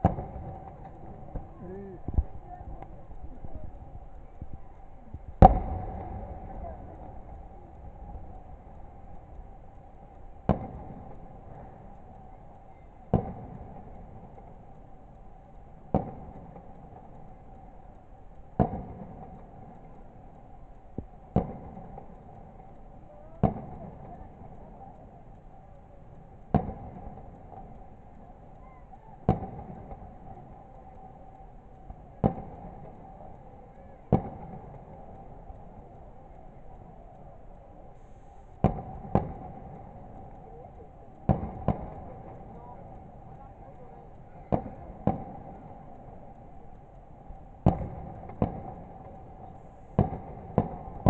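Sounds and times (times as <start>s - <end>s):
fireworks bangs: 0.0s - 14.8s, 15.8s - 17.6s, 18.6s - 20.0s, 21.0s - 22.8s, 23.4s - 25.2s, 26.1s - 51.0s
rumbling echo: 0.0s - 51.0s
steady background noise: 0.0s - 51.0s.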